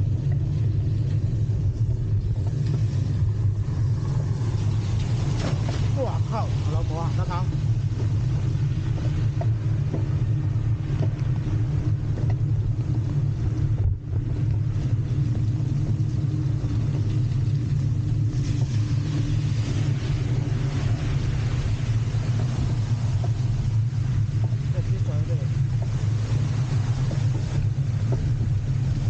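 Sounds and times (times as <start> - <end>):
bike riding on road rumble: 0.0 - 29.0
traffic: 0.0 - 29.0.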